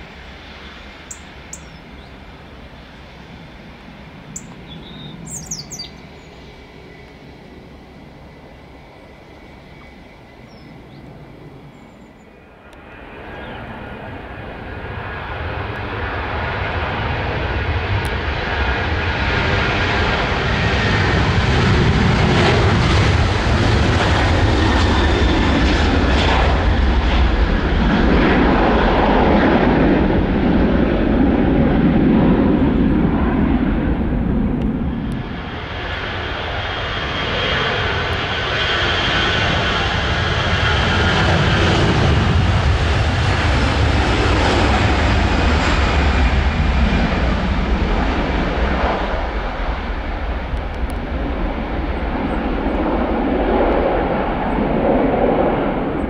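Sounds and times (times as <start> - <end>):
jet airliner taking off: 0.0 - 56.0
second airliner takeoff rumble: 0.0 - 56.0.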